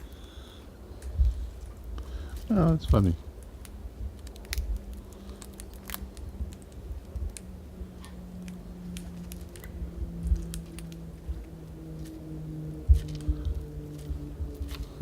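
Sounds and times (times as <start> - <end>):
faint low hum: 0.0 - 15.0
magpies pecking at bird feeder: 0.0 - 15.0.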